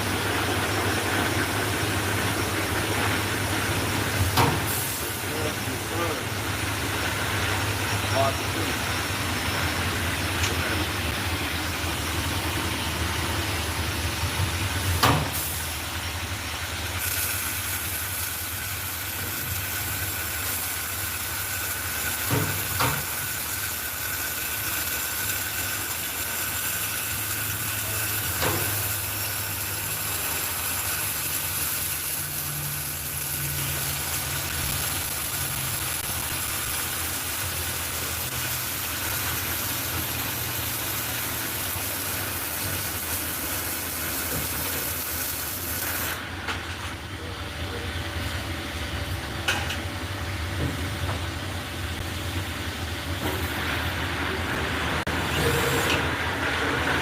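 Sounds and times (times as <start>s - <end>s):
machine hum with hiss: 0.0s - 57.0s.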